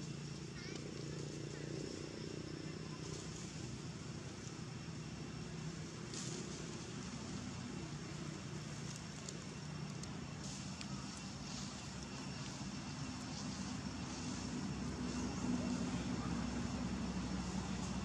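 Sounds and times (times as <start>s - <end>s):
motor vehicle engine hum: 0.0s - 18.0s.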